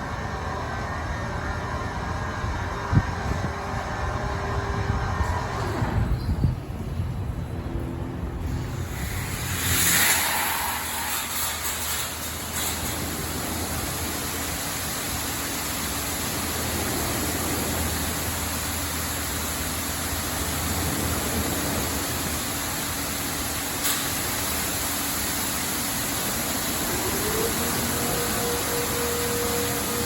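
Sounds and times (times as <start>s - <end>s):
automatic car wash rushing: 0.0s - 30.0s
faint steady hum: 0.0s - 30.0s.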